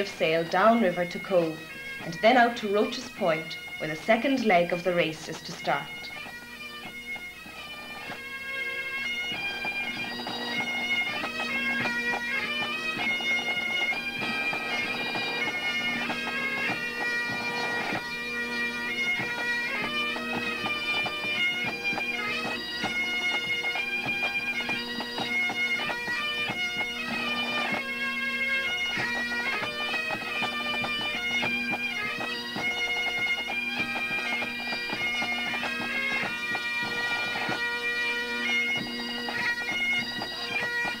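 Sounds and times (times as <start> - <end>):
bagpipes playing a march: 0.0 - 41.0.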